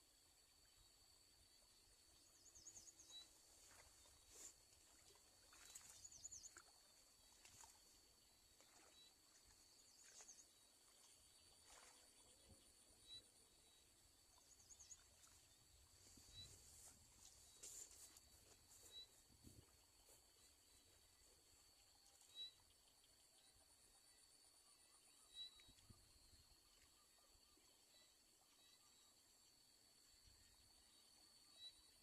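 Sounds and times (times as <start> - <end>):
faint high-pitched whine: 0.0 - 32.0.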